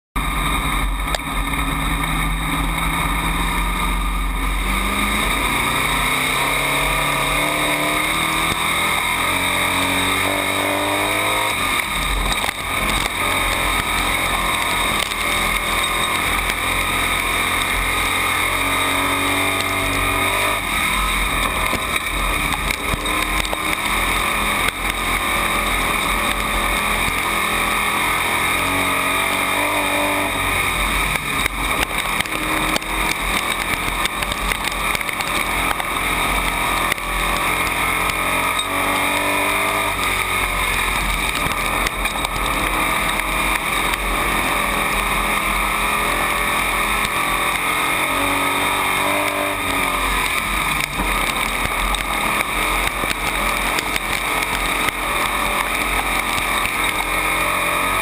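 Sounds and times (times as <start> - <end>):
race car engine: 0.2 - 58.0.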